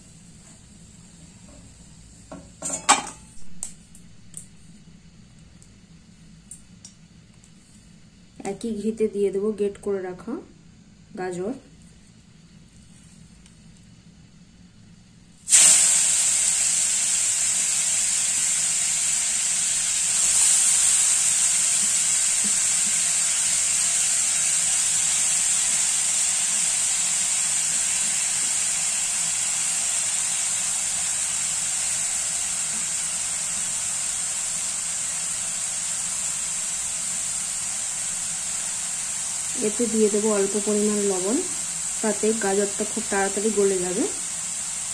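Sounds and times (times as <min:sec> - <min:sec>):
carrot sizzling in hot fat: 0:00.0 - 0:08.0, 0:15.2 - 0:44.9.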